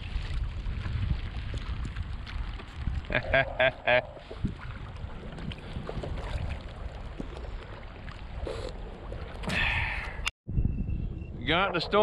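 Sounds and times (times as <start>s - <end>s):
paddle water splashes: 0.0s - 10.0s
wind buffeting microphone: 0.0s - 12.0s.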